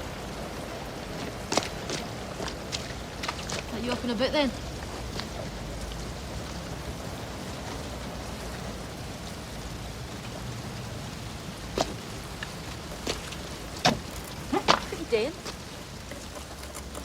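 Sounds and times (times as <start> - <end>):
rain-like hiss: 0.0 - 17.0.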